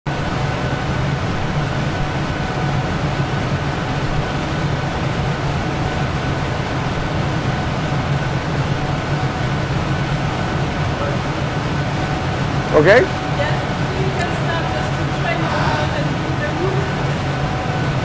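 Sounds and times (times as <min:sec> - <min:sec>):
low machine drone: 0:00.1 - 0:18.0.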